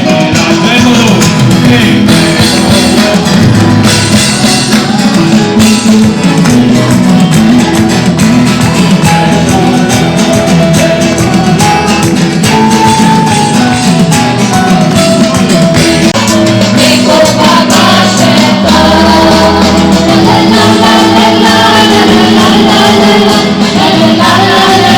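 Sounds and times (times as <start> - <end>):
drums and percussion beat: 0.0 - 24.9.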